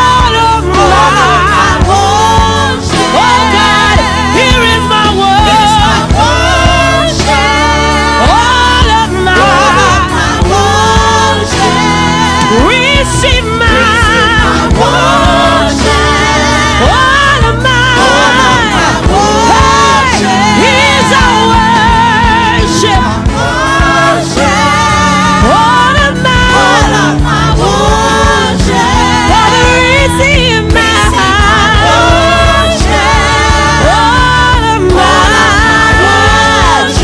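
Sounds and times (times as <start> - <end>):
instrumental backing: 0.0 - 37.0
singing with wide vibrato: 0.0 - 37.0.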